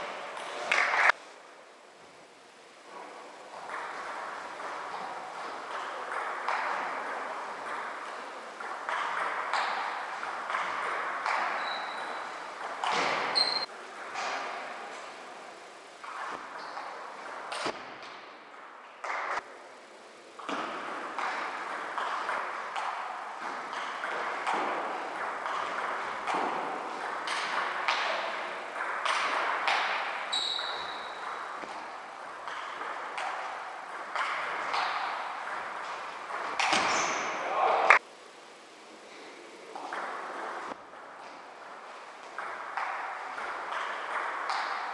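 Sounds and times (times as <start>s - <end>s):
steady hall hum: 0.0s - 44.9s.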